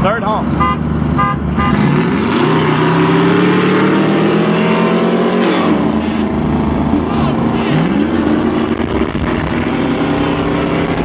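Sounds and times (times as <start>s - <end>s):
wind and road noise: 0.0s - 11.0s
engine accelerating at full throttle: 0.4s - 11.0s.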